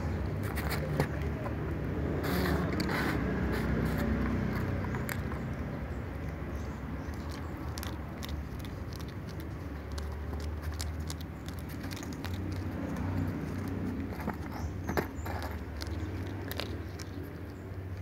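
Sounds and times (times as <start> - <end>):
cat crunching dry kibble: 0.0 - 18.0.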